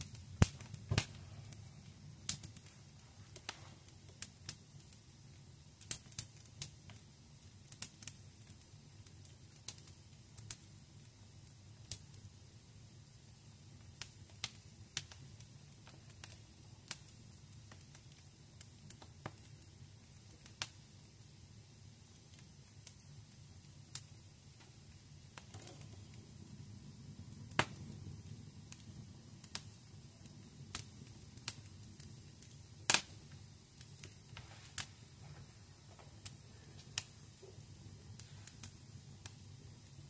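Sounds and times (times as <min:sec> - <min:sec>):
low rumble of flames: 0:00.0 - 0:40.0
wood fire crackling: 0:00.0 - 0:40.0.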